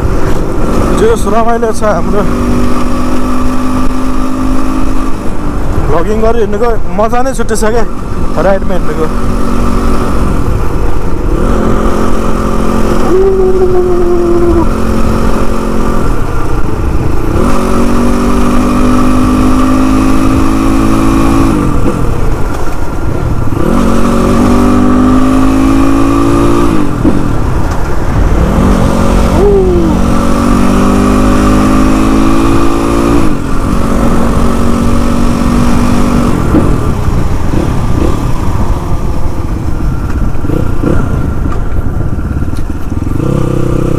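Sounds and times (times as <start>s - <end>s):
constant rushing noise: 0.0s - 43.9s
motorcycle engine accelerating: 0.0s - 43.9s.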